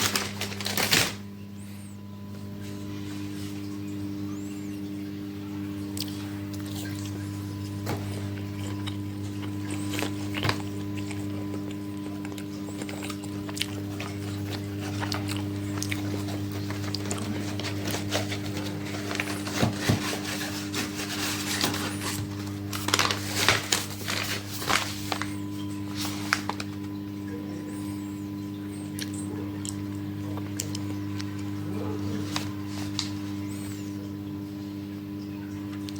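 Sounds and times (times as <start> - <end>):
microwave oven humming: 0.0 - 35.9.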